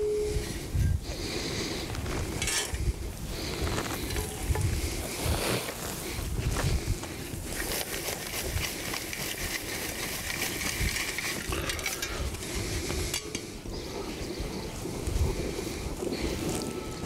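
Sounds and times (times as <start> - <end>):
wind rumble on microphone: 0.0 - 17.0
gloved hands scraping dry dirt: 1.1 - 17.0.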